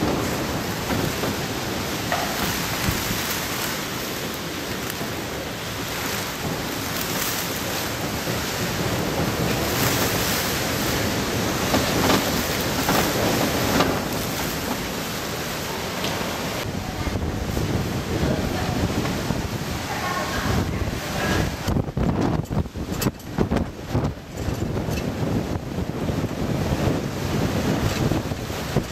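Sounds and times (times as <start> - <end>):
driving rain: 0.0 - 28.9
wind roaring through palm trees: 0.0 - 28.9.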